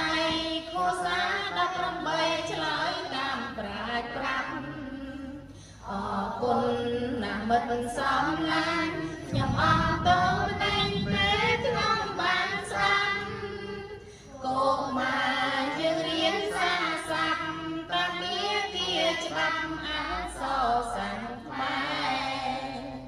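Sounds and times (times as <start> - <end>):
children and woman chanting: 0.0 - 23.0.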